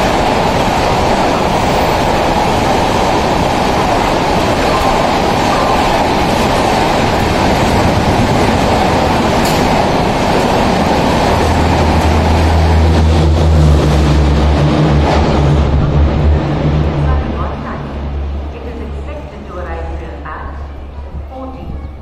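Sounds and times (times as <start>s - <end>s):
train rushing past: 0.0s - 22.0s.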